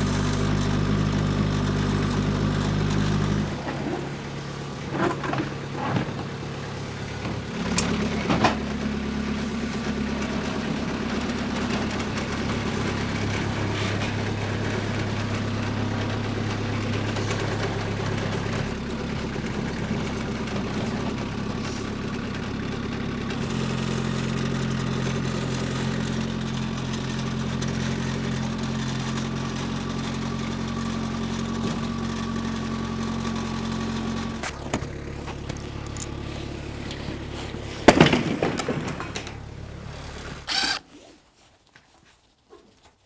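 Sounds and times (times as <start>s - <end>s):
skid steer engine running: 0.0s - 41.1s.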